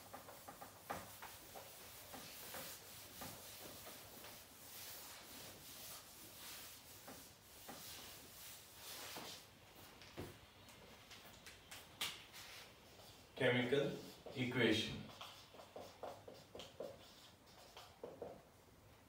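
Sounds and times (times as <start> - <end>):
cloth wiping a whiteboard: 0.0 - 9.9, 12.3 - 18.6.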